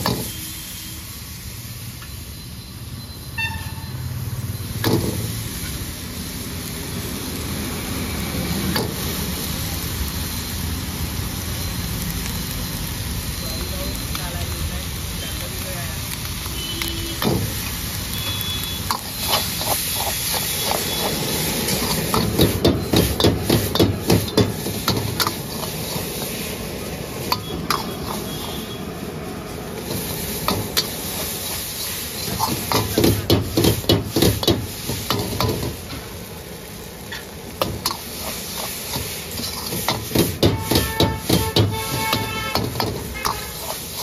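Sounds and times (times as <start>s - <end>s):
gas burner hissing: 0.0s - 44.0s.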